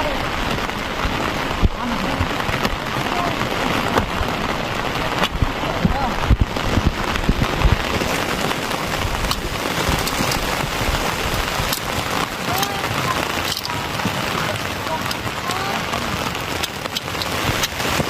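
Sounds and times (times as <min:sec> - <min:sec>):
raindrops tapping surfaces: 0:00.0 - 0:18.0
steady rain falling: 0:00.0 - 0:18.0.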